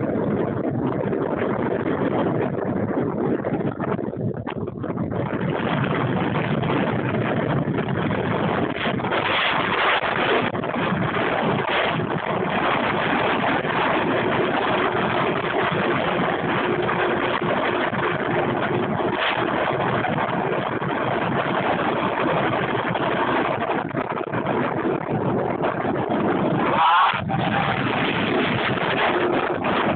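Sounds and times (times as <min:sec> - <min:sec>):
tyre rolling noise on road: 0:00.0 - 0:29.9
wind rushing: 0:00.0 - 0:29.9.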